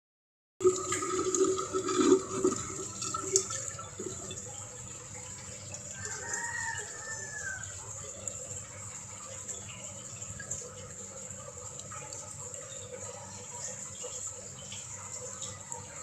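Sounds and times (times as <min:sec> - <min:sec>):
water running and splashing: 0:00.6 - 0:16.0.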